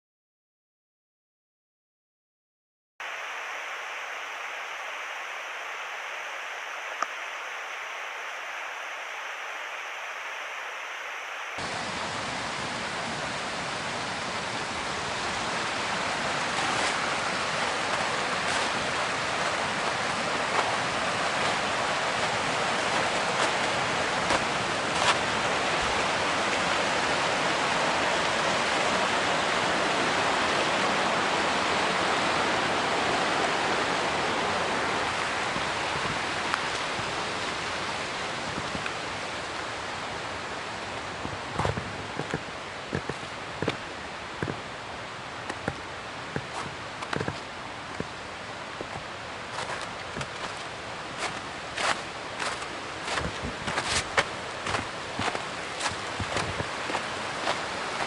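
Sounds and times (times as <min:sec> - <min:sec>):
steady rushing noise: 0:03.0 - 0:58.0.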